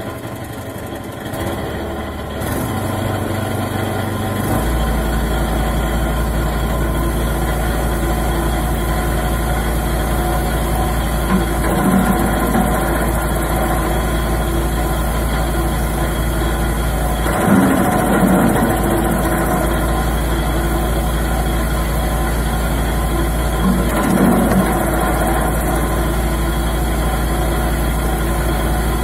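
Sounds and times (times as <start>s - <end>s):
chipper engine running: 0.0s - 29.0s.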